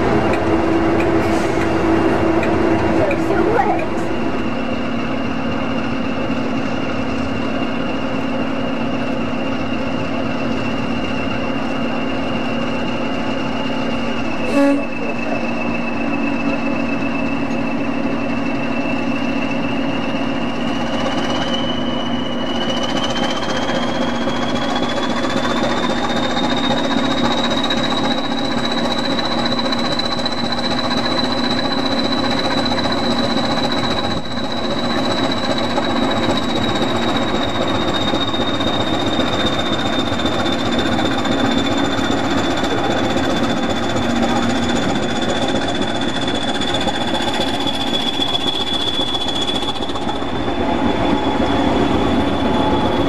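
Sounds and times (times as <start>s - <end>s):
diesel locomotive engine drone: 0.0s - 53.0s
turbocharger whistle: 10.4s - 53.0s.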